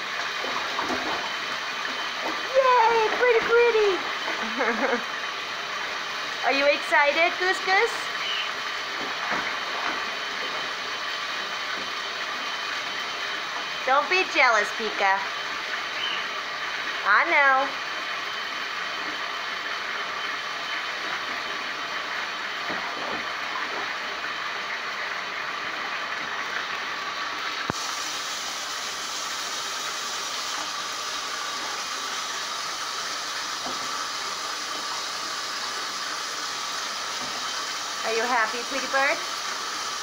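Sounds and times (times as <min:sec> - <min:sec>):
bath tap running into tub: 0:00.0 - 0:40.0.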